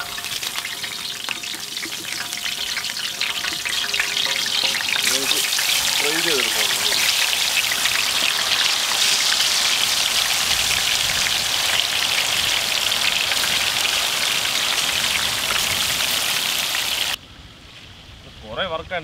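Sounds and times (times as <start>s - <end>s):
deep-frying sizzle and crackle: 0.0s - 18.0s.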